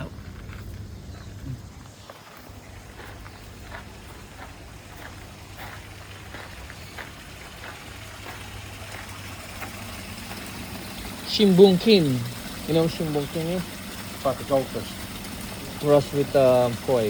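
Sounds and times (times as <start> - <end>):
aquarium pumps humming: 0.0 - 17.0
faint water noise: 0.0 - 17.0.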